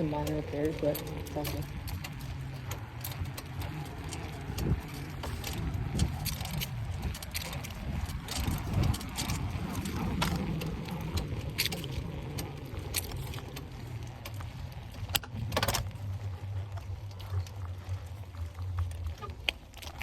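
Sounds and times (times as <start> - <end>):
bicycle parts rattling: 0.0 - 20.0
low steady rumble: 0.0 - 20.0.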